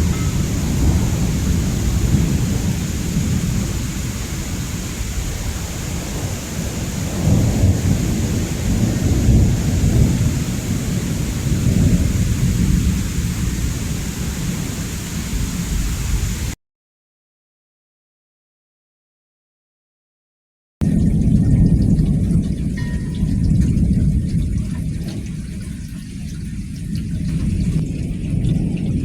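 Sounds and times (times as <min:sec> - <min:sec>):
steady rain: 0:00.0 - 0:16.6, 0:20.8 - 0:29.0
thunder rumbling: 0:00.0 - 0:16.6, 0:20.8 - 0:29.0.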